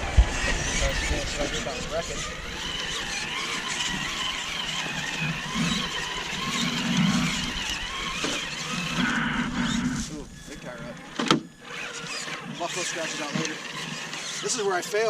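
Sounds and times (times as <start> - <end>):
toy car electric motor whining: 0.1 - 15.0.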